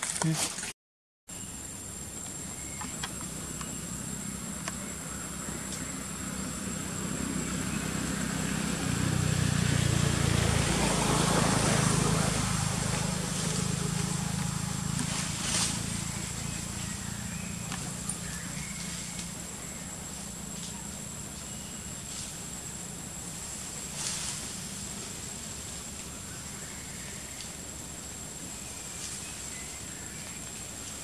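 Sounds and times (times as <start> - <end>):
faint outdoor background: 1.3 - 31.0
low motor hum: 1.9 - 31.0.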